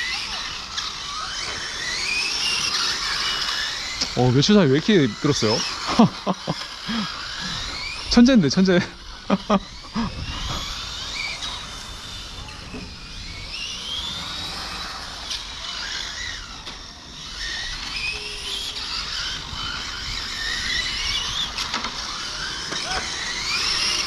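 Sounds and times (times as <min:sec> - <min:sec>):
rc car motors whining: 0:00.0 - 0:24.0.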